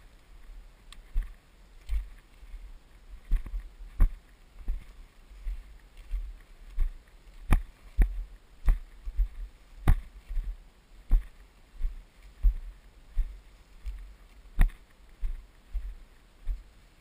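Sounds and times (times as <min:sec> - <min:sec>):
footsteps in dry grass: 0:00.0 - 0:17.0.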